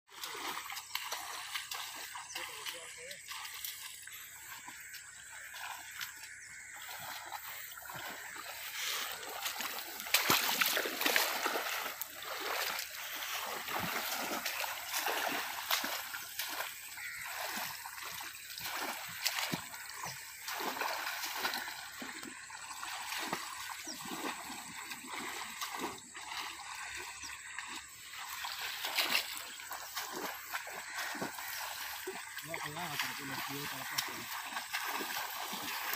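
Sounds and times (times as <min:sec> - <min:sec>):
muddy water splashing: 0:00.1 - 0:35.9.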